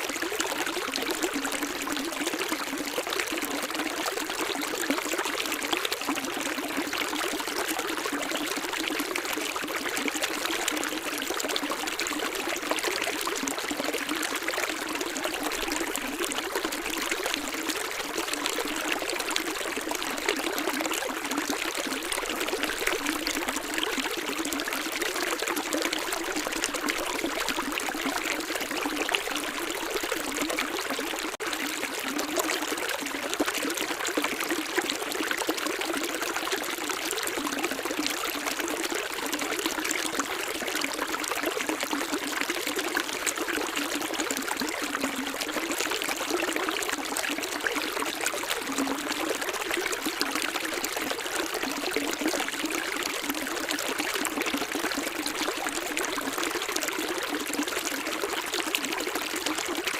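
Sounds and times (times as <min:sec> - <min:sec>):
stream water splashing and trickling: 0:00.0 - 0:59.9.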